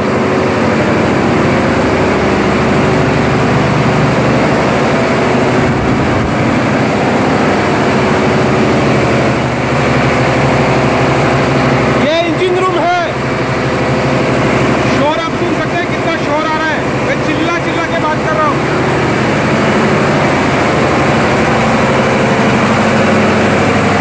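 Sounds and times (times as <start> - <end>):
diesel generator engines droning: 0.0 - 24.0.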